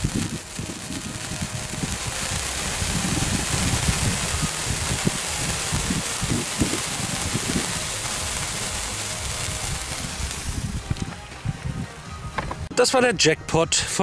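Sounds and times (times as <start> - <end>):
sparkler fizzing and crackling: 0.0 - 12.2.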